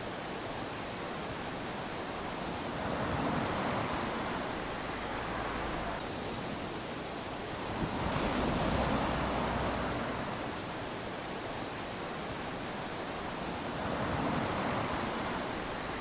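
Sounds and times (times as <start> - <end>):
small waves washing onto sand: 0.6 - 16.0.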